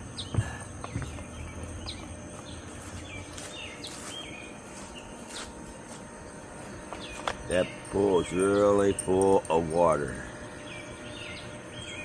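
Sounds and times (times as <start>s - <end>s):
birds chirping: 0.0s - 12.0s
insect trill: 0.0s - 12.0s.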